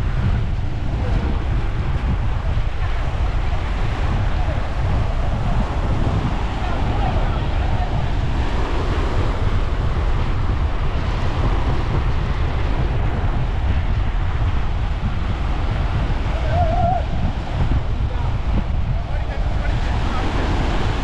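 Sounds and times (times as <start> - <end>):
sea surf breaking: 0.0 - 21.0
wind buffeting microphone: 0.0 - 21.0.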